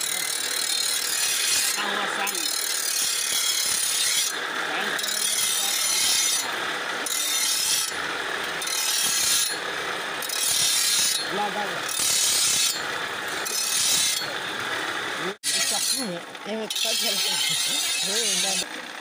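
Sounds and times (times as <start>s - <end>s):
blade grinding on wheel: 0.0s - 19.0s.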